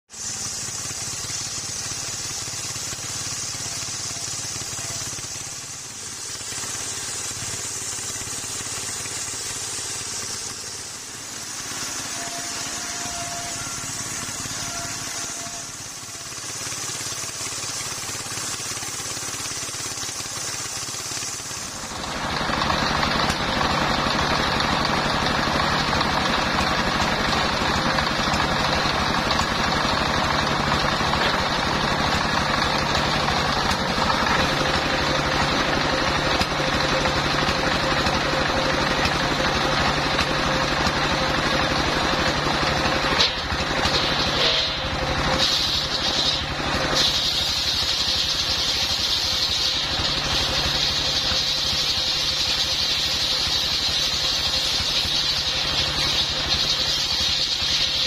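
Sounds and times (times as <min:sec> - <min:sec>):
diesel engine running: 0:00.1 - 0:58.0
saw blade cutting log: 0:00.1 - 0:58.0.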